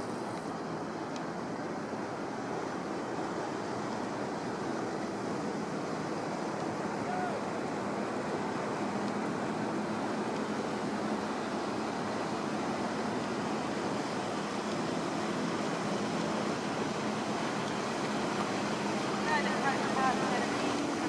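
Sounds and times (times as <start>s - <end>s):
boat motor running: 0.0s - 21.0s
water rushing along hull: 0.0s - 21.0s.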